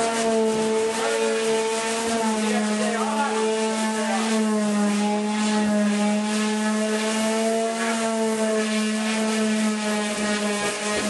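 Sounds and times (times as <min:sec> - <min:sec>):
power tool motor humming: 0:00.0 - 0:11.0.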